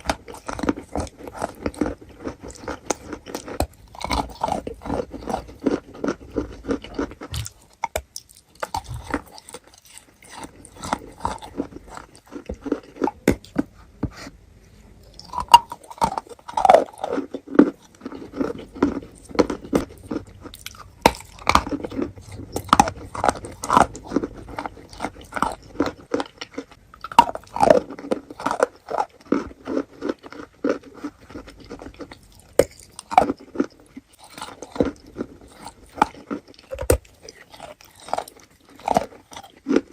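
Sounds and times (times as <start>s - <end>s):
person chewing wet chalk: 0.0s - 39.9s.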